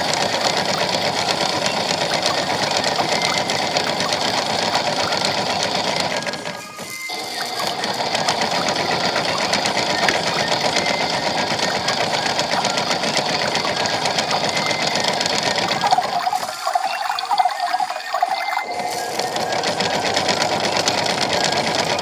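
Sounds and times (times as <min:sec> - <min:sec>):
toy motor buzzing whir: 0:00.0 - 0:22.0.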